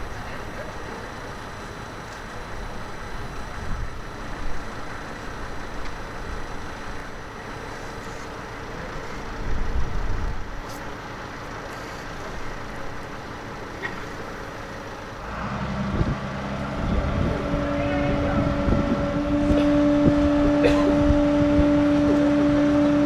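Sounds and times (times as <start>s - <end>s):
large engine running: 0.0s - 23.0s
steady whine: 0.0s - 23.0s.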